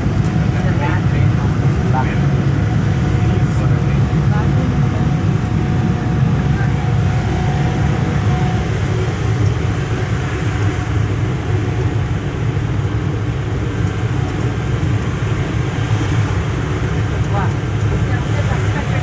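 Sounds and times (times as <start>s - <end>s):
mini train engine rumble: 0.0s - 19.0s.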